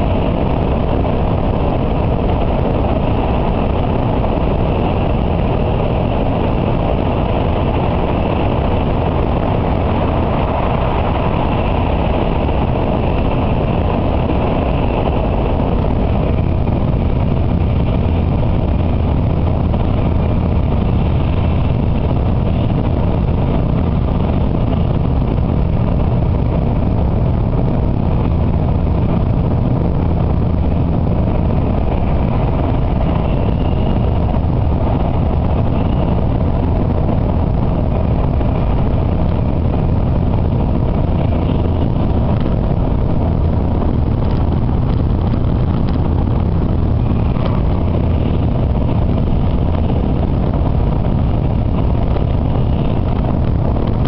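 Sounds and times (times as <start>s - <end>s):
train cabin rumble and rush: 0.0s - 54.0s.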